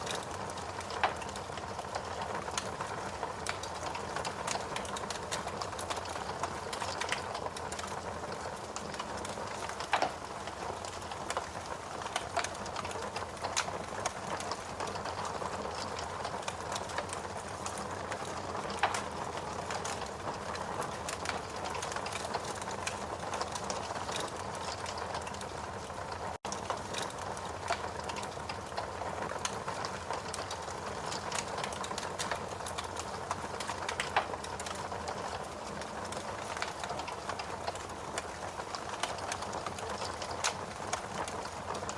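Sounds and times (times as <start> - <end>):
steady rain: 0.0 - 41.9
wood fire crackling and popping: 0.0 - 41.9.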